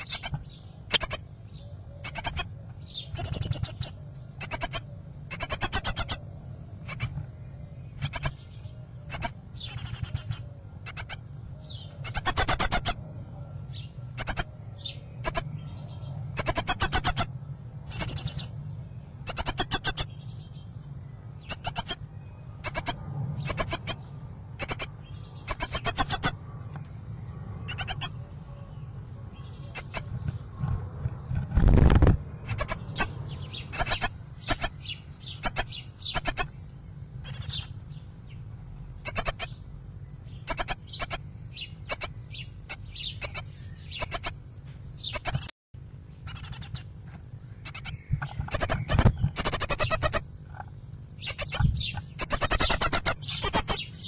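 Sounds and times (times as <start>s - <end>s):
nestlings begging calls: 0.0s - 13.0s, 13.7s - 26.4s, 27.3s - 45.5s, 46.1s - 54.0s.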